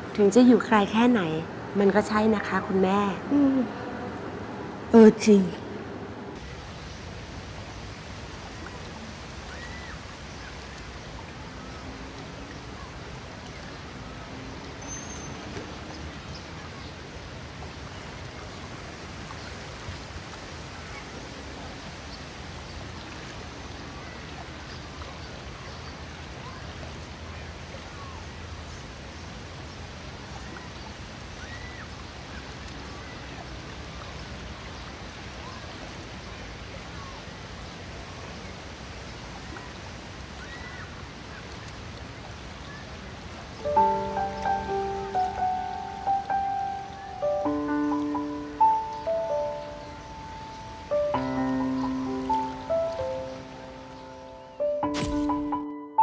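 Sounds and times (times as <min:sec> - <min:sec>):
lapping water or wind: 0:00.0 - 0:55.6.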